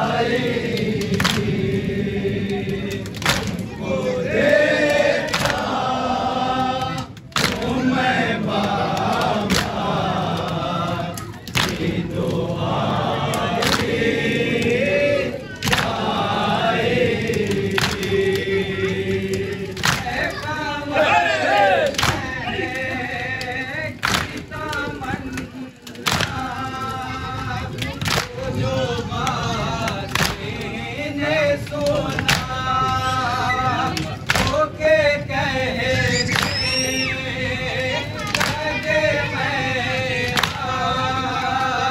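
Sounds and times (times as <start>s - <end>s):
men chanting a lament: 0.0s - 41.9s.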